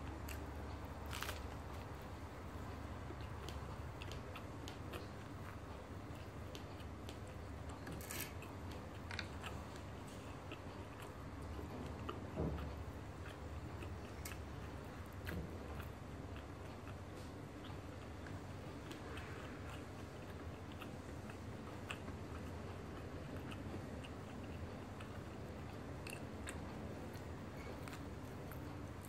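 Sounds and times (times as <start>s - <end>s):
person chewing: 0.0s - 29.0s.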